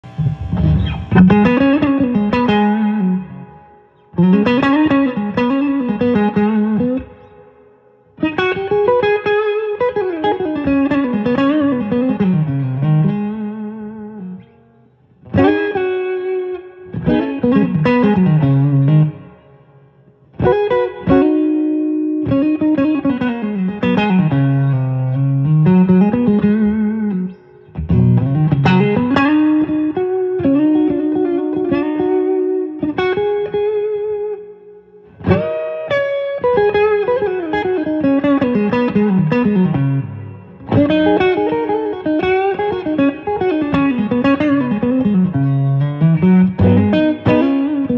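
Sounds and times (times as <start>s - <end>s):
electric guitar lead lines: 0.0s - 47.9s.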